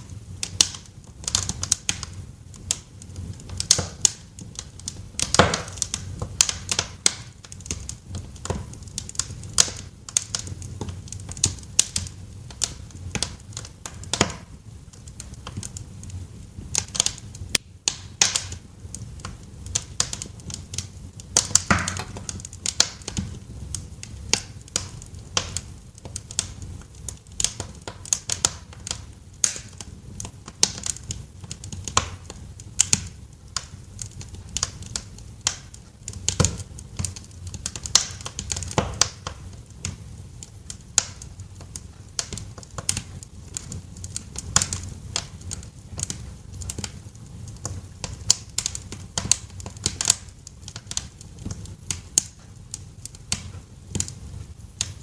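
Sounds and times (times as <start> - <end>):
low rumble of burning fire: 0.0 - 55.0
wood fire crackling and popping: 0.0 - 55.0.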